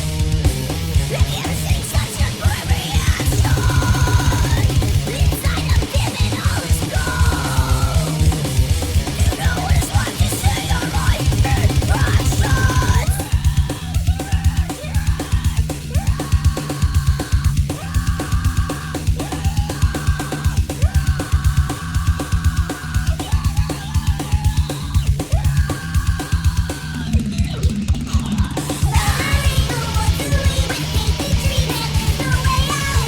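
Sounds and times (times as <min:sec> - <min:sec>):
heavy rock music: 0:00.0 - 0:33.0.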